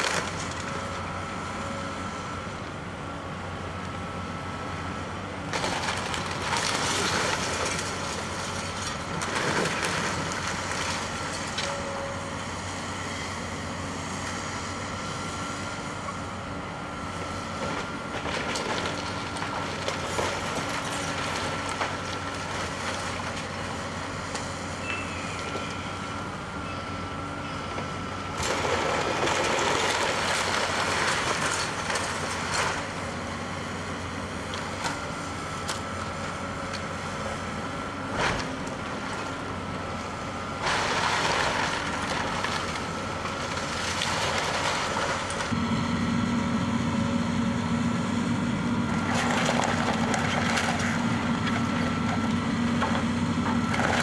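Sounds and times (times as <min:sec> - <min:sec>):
excavator engine whining: 0:00.0 - 0:54.0.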